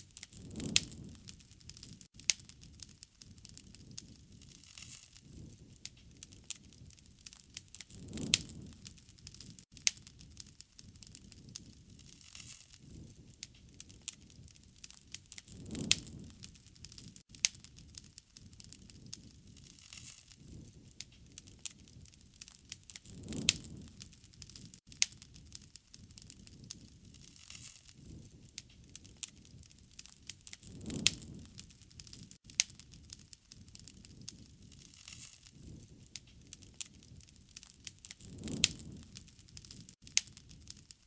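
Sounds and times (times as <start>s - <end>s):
low rush of flame: 0.0s - 41.0s
wood fire crackling and popping: 0.0s - 41.0s.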